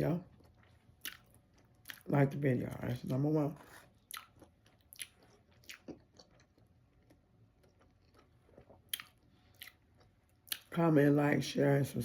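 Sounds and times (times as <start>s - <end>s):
person chewing food: 0.2s - 10.8s.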